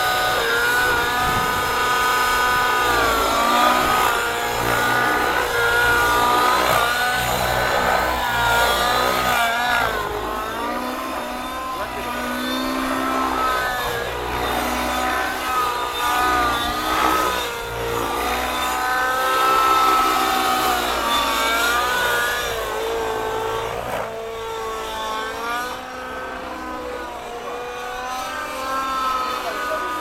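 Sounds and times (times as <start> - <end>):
model helicopter engine whine: 0.0 - 30.0.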